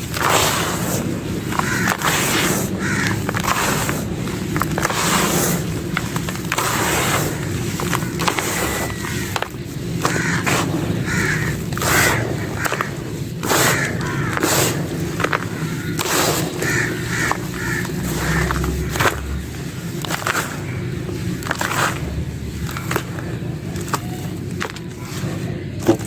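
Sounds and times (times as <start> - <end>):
dry clay crumbling and crunching: 0.0 - 26.0.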